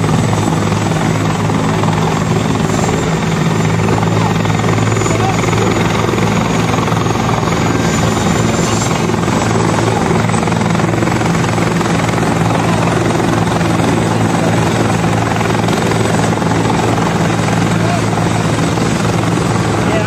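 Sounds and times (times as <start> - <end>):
helicopter rotor and turbine hum: 0.0 - 20.0
high turbine whine: 0.0 - 20.0.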